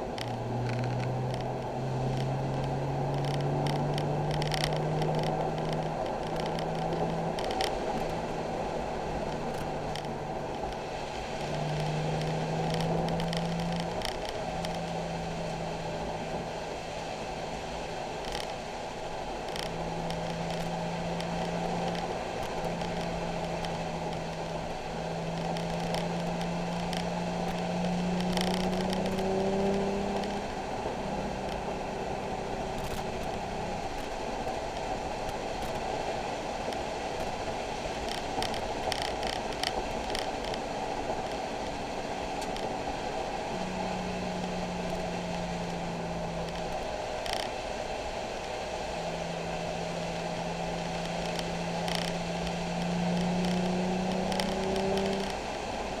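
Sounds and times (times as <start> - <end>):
car engine running: 0.0 - 56.0
tyre and road hiss: 0.0 - 56.0.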